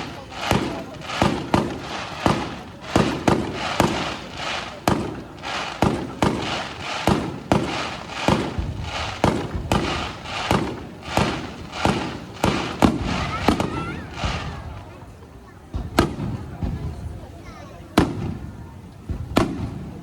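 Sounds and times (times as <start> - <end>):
fireworks bangs: 0.0 - 17.3, 17.9 - 20.0
fireworks crackling: 0.0 - 20.0.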